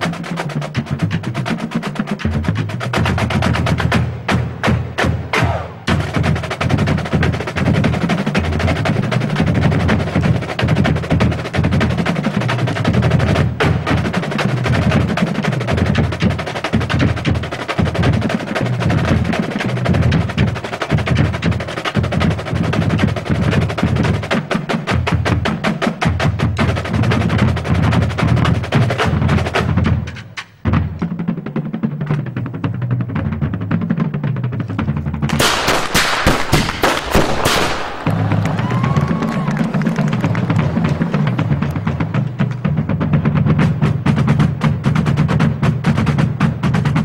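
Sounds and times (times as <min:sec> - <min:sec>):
pulsing bass drum beats: 0:00.0 - 0:47.0
rapid snare drum rolls: 0:00.0 - 0:47.0.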